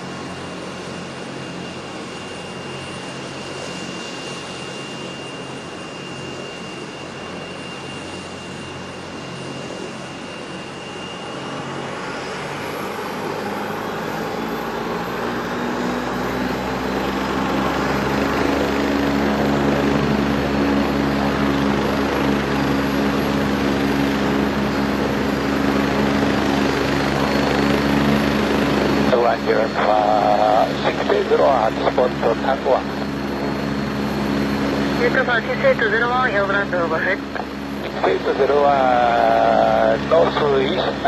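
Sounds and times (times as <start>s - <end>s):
helicopter turbine and rotor: 0.0s - 41.0s.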